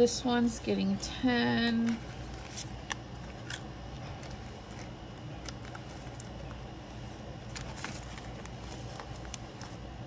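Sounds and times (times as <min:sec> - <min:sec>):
low background hum: 0:00.0 - 0:10.0
paper rustling: 0:01.8 - 0:09.9.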